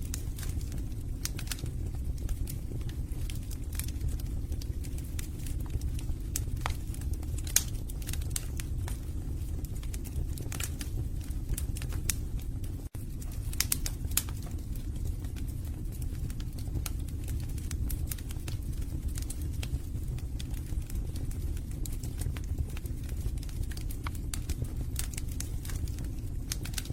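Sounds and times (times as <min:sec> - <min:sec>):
fire rumbling in fireplace: 0:00.0 - 0:26.9
logs crackling and popping: 0:00.0 - 0:26.9.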